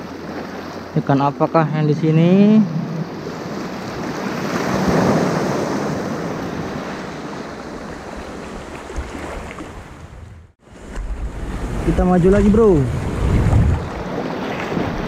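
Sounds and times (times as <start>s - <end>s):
sea surf washing on shore: 0.0s - 15.0s
wind on microphone: 2.6s - 15.0s.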